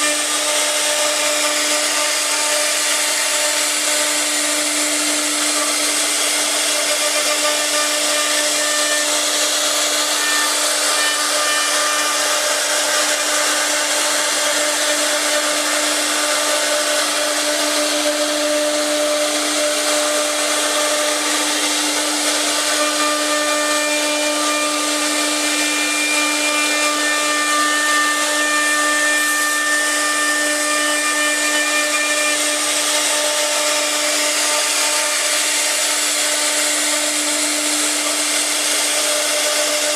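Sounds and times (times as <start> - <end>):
wood router spindle whine: 0.0 - 39.9.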